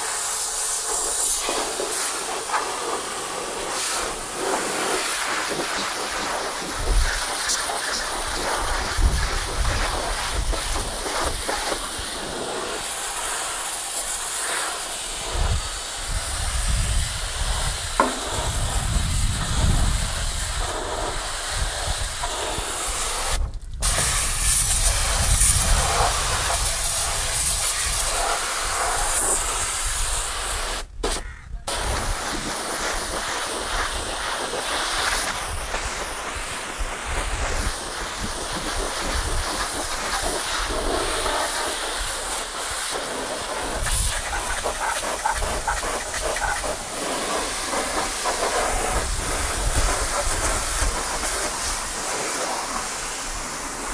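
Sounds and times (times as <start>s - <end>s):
pressure washer jet spraying: 0.0s - 53.9s.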